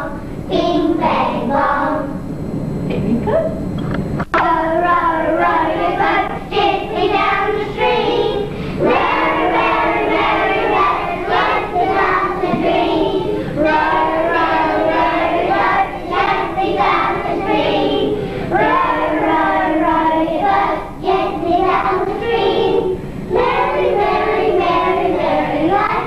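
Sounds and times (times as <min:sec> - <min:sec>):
children singing together: 0:00.0 - 0:02.2, 0:04.4 - 0:26.0.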